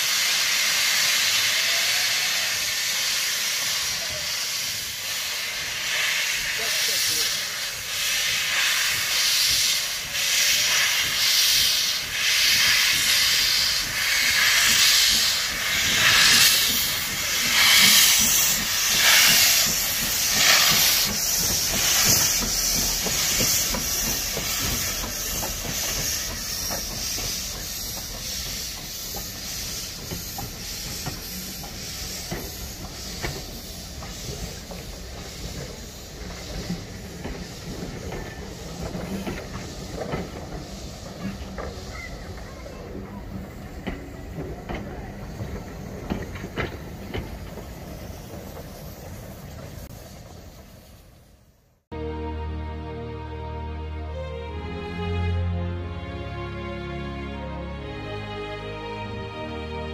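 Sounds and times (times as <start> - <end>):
steam locomotive chuffing: 0.0 - 51.8
loud hissing steam: 0.0 - 51.9.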